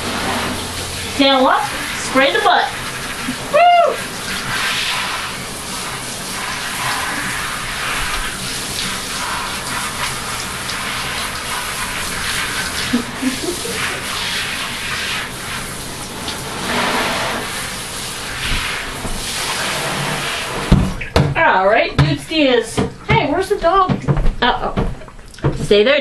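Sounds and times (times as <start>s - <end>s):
shower sprayer water spraying: 0.0s - 26.0s
water splashing into bathtub: 0.0s - 26.0s.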